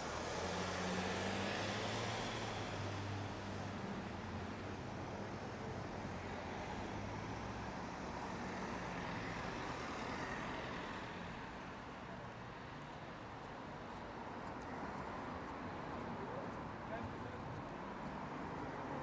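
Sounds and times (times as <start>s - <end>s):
outdoor street noise: 0.0s - 19.0s.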